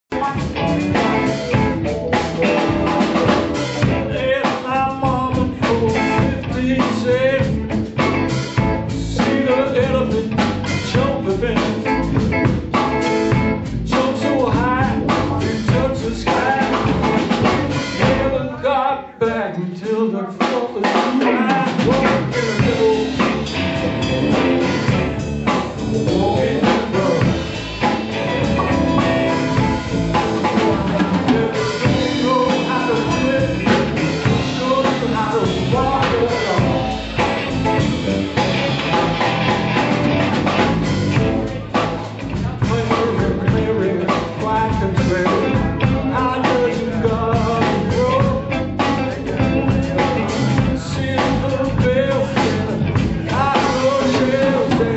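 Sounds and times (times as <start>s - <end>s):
bass guitar: 0.0s - 19.5s, 20.4s - 54.9s
live blues band playing: 0.1s - 54.9s.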